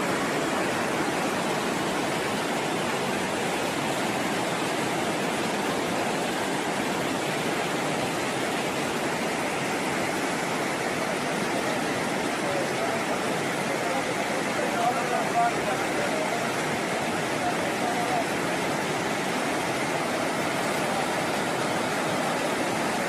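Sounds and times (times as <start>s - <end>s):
flooded river rushing: 0.0s - 23.0s.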